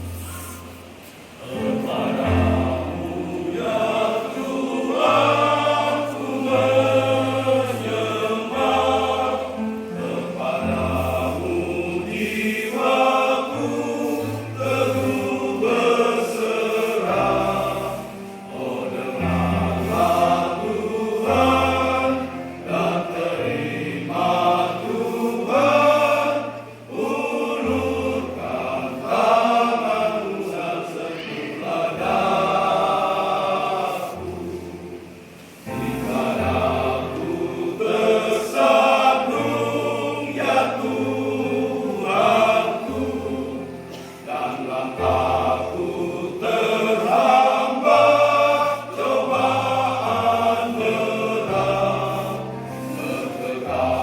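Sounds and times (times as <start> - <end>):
church choir singing: 0.0 - 54.0.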